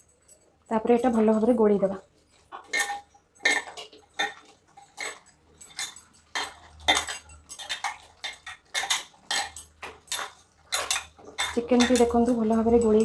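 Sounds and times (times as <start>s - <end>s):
clinks against steel bowl: 2.3s - 13.0s.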